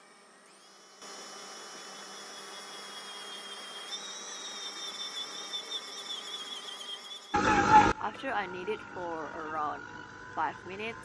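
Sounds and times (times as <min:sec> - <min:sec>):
stand mixer motor whirring: 0:00.0 - 0:11.0.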